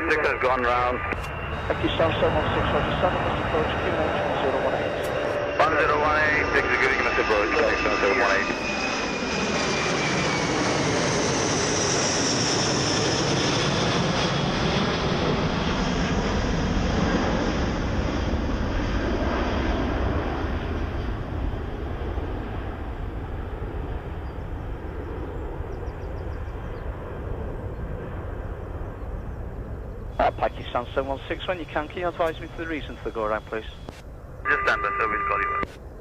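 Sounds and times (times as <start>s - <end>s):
jet engines rushing and whining: 0.0s - 36.0s.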